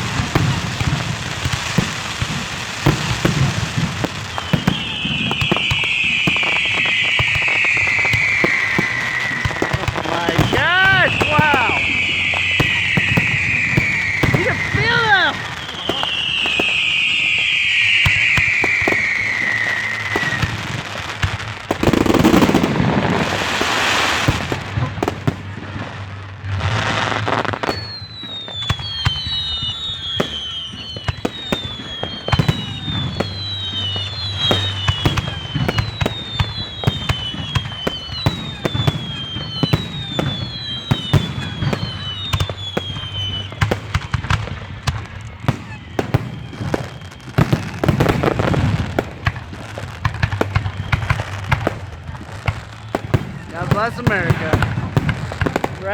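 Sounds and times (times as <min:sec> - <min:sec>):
firework bangs and crackles: 0:00.0 - 0:55.9
firework burst: 0:00.0 - 0:55.9
firework whistles falling in pitch: 0:00.0 - 0:55.9.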